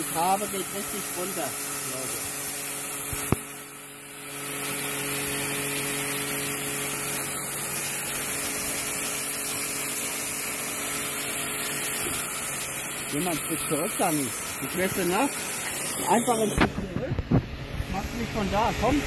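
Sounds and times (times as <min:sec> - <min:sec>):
motor hum: 0:00.0 - 0:19.0
pressure washer spray hissing: 0:00.0 - 0:19.0.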